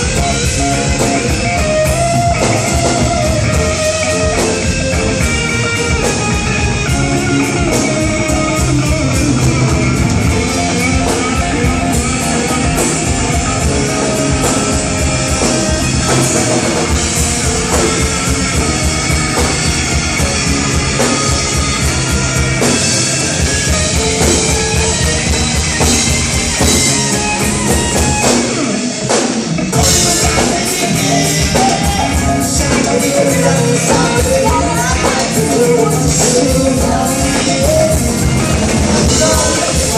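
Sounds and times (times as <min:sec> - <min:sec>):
drum kit: 0:00.0 - 0:39.9
electric guitar: 0:00.0 - 0:39.9
rock band playing: 0:00.0 - 0:39.9.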